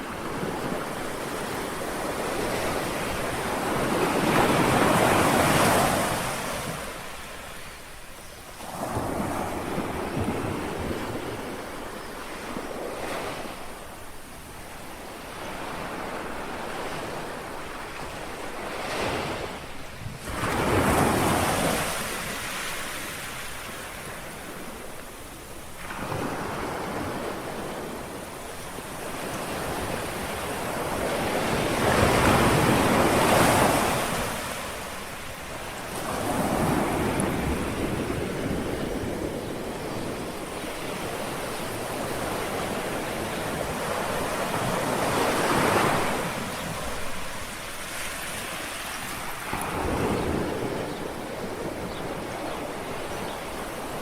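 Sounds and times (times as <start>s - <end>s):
sea waves lapping on shore: 0.0s - 54.0s.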